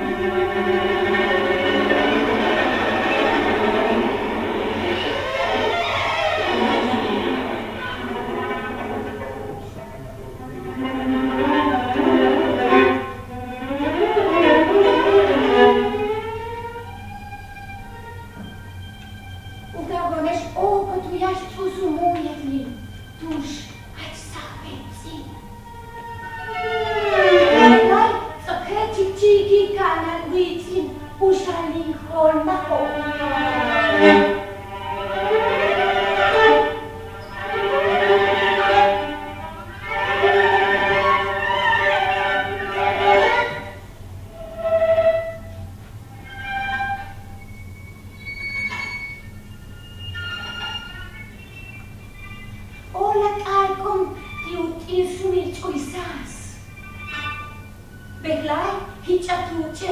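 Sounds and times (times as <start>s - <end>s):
viola bowed notes: 0.0s - 59.9s.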